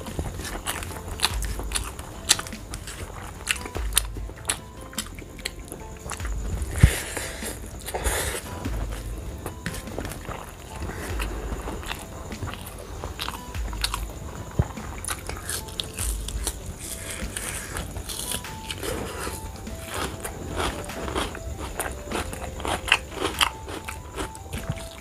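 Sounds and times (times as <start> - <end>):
chewing food: 0.0 - 25.0.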